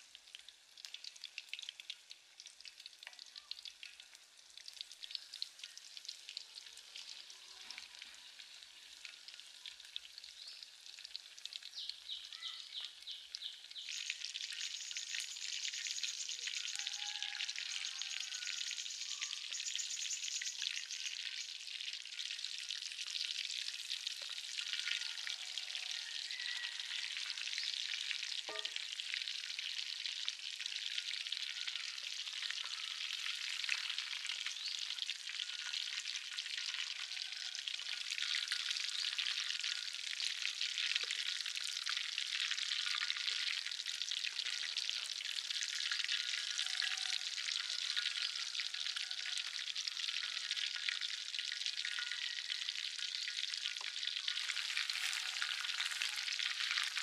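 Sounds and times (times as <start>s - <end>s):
chicken deep-frying in oil: 0.0s - 57.0s.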